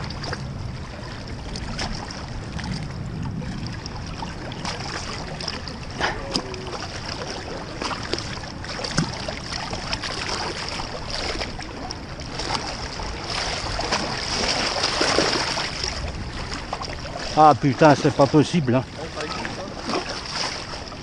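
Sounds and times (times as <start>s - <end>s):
river current rushing: 0.0s - 21.0s
water sloshing and splashing: 0.0s - 21.0s.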